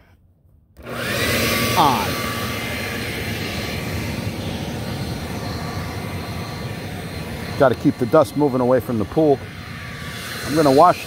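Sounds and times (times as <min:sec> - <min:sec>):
electric leaf blower whining: 0:00.8 - 0:11.0.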